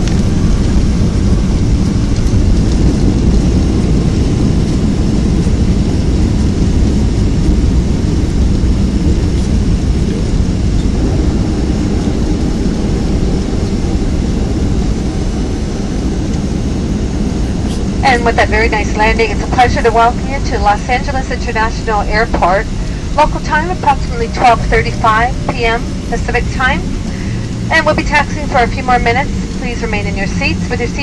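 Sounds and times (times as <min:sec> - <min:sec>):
low rumble of jet engines and wheels: 0:00.0 - 0:31.0.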